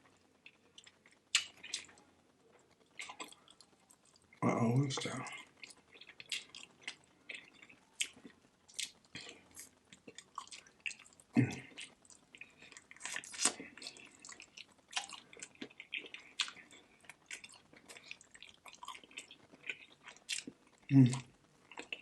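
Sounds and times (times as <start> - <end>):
wet chewing and mouth smacking: 0.3 - 4.4, 5.0 - 22.0.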